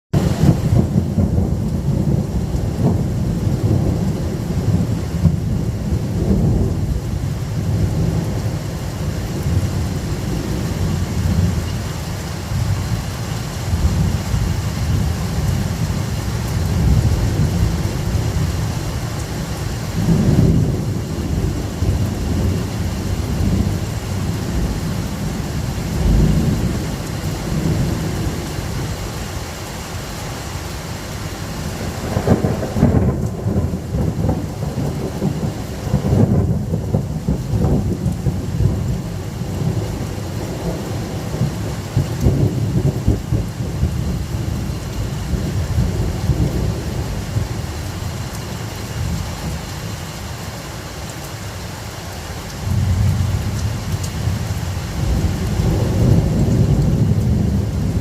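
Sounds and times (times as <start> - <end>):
thunder rumbling: 0.2 - 29.5, 31.0 - 50.0, 52.6 - 58.0.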